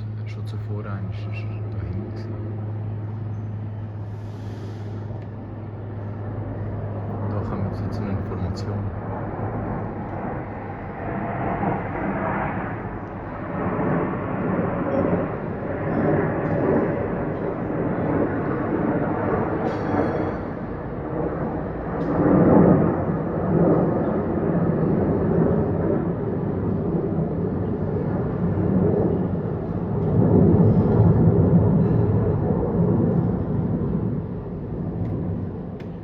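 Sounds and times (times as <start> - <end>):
helicopter rotor and engine: 0.0 - 36.0.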